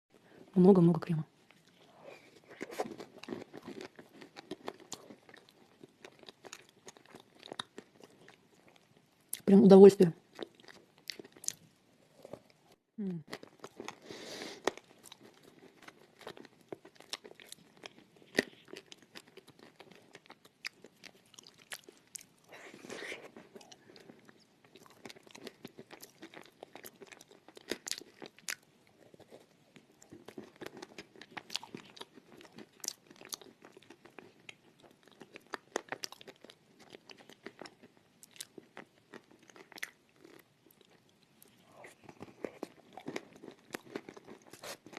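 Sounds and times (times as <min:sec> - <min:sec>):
chalk crunching while chewed: 0:01.5 - 0:08.9, 0:13.3 - 0:44.9.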